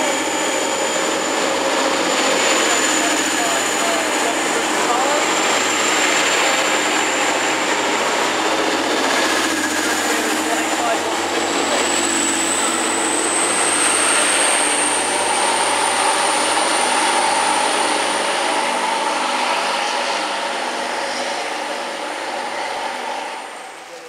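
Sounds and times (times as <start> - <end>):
passenger train running on rails: 0.0 - 24.0
train high whine: 0.0 - 24.0.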